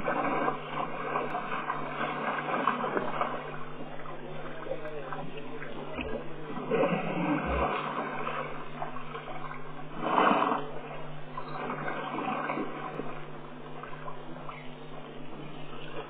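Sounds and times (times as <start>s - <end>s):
steady low hum: 0.0s - 16.0s
water splashing and sloshing: 0.0s - 16.0s.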